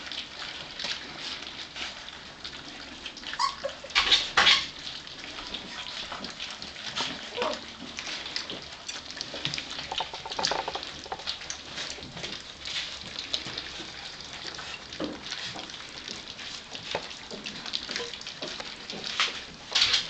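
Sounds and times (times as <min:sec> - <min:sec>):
puppies lapping wet food: 0:00.0 - 0:20.0.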